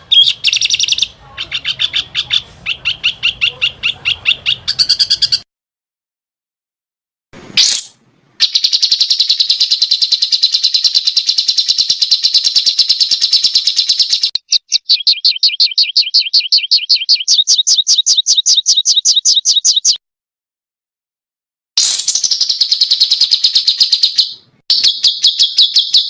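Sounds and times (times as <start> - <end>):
songbird trilling: 0.0 - 5.4, 7.6 - 20.0, 21.8 - 26.0.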